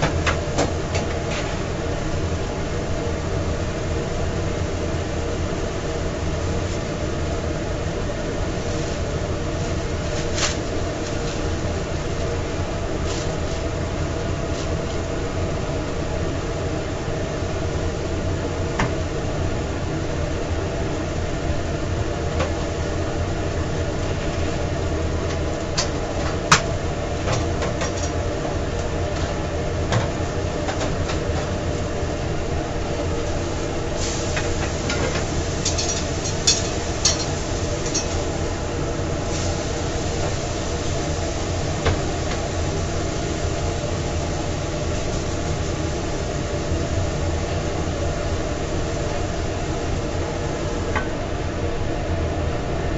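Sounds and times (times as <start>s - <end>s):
kitchen equipment droning: 0.0s - 52.9s.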